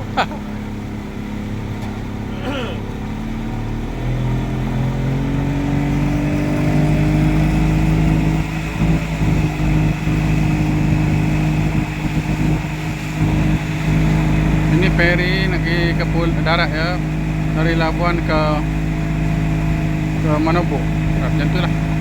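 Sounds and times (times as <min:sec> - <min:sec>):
motorboat engine speeding up: 0:00.0 - 0:22.0.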